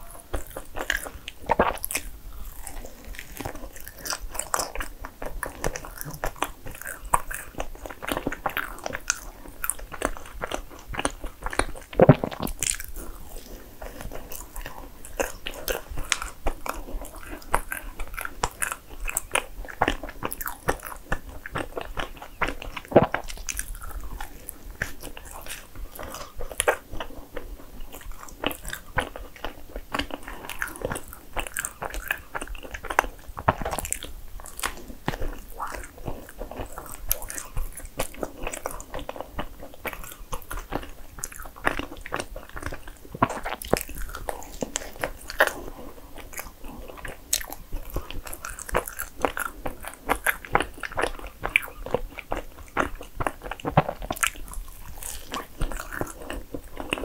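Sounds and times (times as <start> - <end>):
biting and chewing: 0.0 - 57.0.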